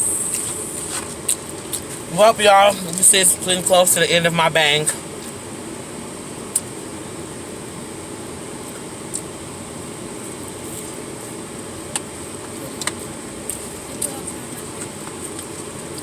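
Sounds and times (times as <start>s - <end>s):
air conditioning fan hum: 0.0s - 16.0s.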